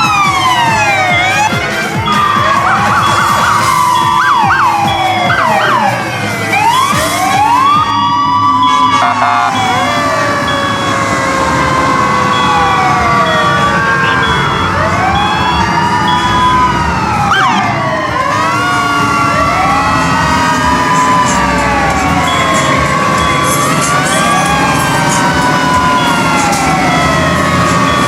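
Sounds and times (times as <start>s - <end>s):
fire truck sirens wailing: 0.0s - 28.0s.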